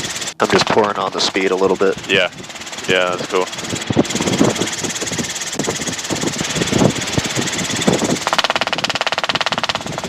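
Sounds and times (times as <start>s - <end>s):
helicopter engine and rotor: 0.0s - 10.0s
pulsing buzz: 0.0s - 10.0s.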